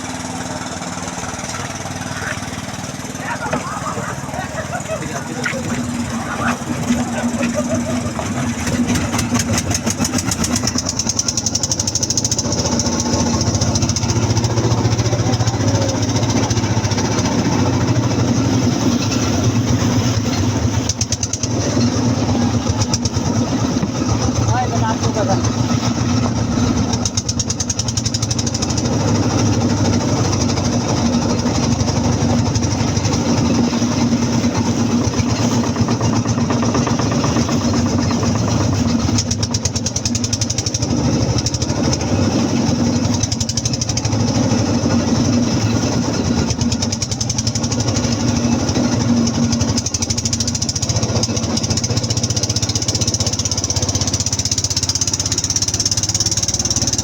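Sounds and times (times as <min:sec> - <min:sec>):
motorboat engine knocking: 0:00.0 - 0:57.0.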